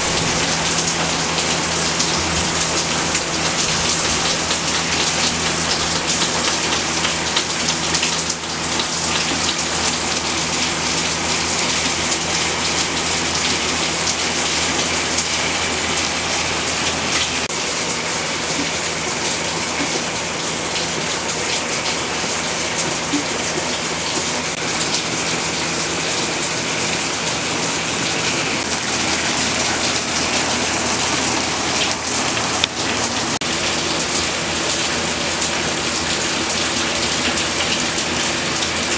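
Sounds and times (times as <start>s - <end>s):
rain drumming on shed roof: 0.0s - 38.9s.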